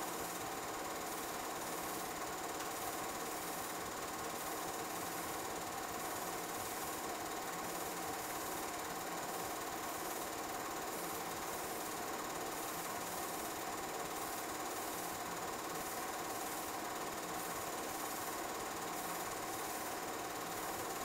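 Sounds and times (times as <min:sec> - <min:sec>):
film projector whirring: 0:00.0 - 0:21.0.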